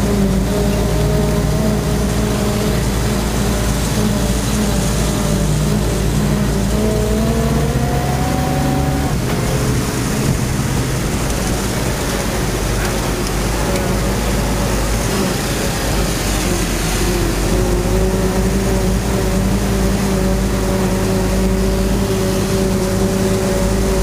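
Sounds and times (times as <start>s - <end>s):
engine whine: 0.0s - 24.0s
truck engine running: 0.0s - 24.0s.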